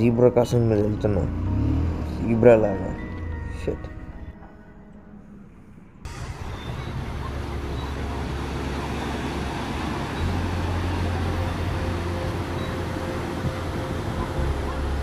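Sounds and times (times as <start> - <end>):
car road noise: 0.0 - 15.0
low hum: 0.6 - 15.0.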